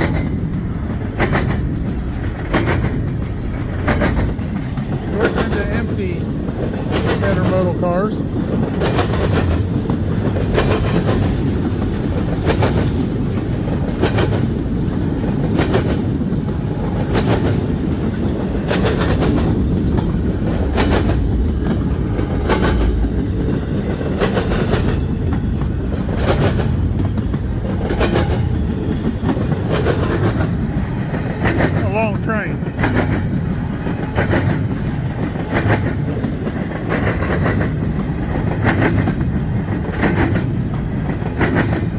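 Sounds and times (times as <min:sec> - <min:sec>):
train wheels rumbling on rail: 0:00.0 - 0:41.9
wheels clacking over rail joint: 0:00.0 - 0:41.9.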